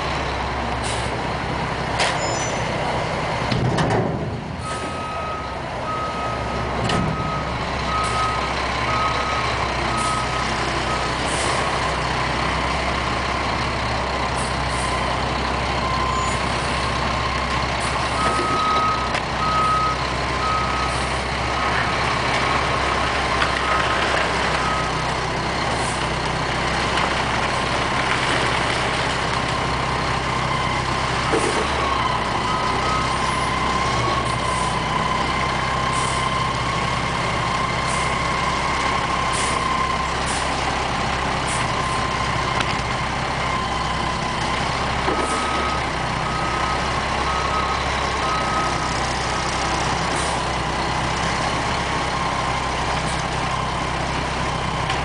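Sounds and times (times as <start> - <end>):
garbage truck engine running: 0.0 - 55.0.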